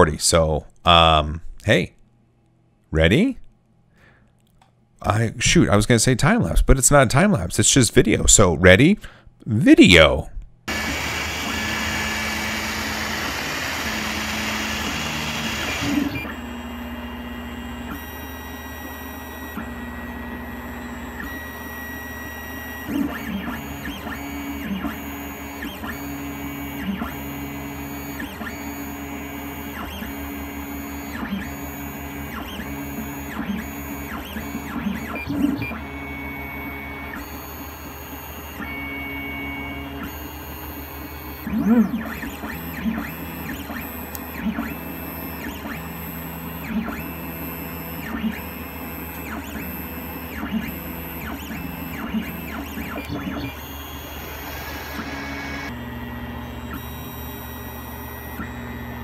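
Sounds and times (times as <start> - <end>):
stepper motors whining: 10.7 - 59.0.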